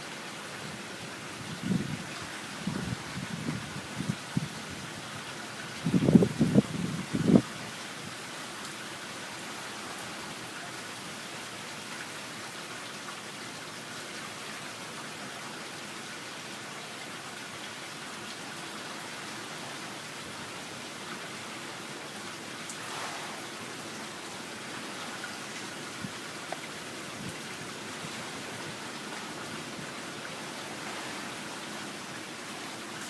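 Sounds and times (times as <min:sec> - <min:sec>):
storm wind and rain hiss: 0:00.0 - 0:33.0.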